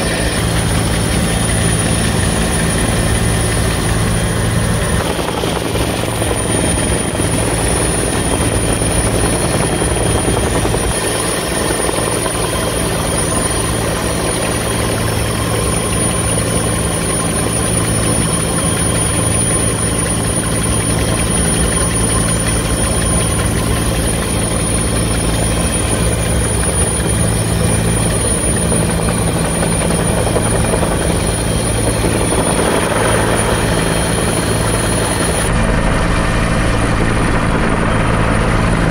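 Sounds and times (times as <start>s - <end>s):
helicopter rotor beat: 0.0s - 38.9s
high-pitched whine: 0.0s - 38.9s.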